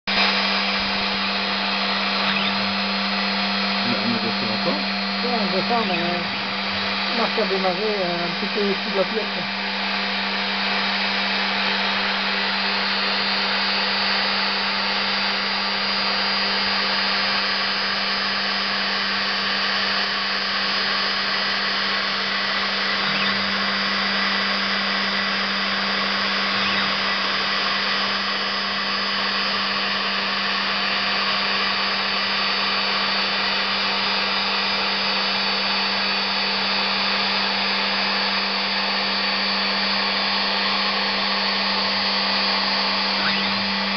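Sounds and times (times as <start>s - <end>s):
end mill cutting metal: 0.1s - 35.6s, 38.4s - 43.9s
milling spindle whirring: 0.1s - 43.9s.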